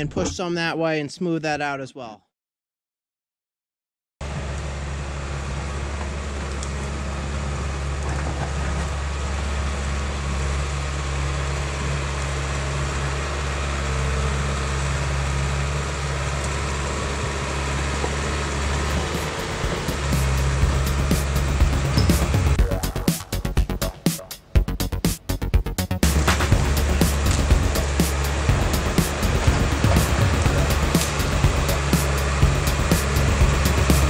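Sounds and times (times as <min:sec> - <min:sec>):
diesel engine under load: 0:04.2 - 0:34.0.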